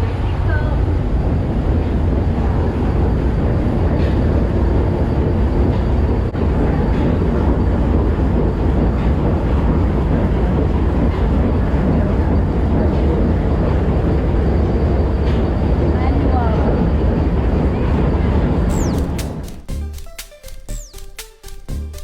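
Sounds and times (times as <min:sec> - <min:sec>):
steamship low rumble: 0:00.0 - 0:19.8.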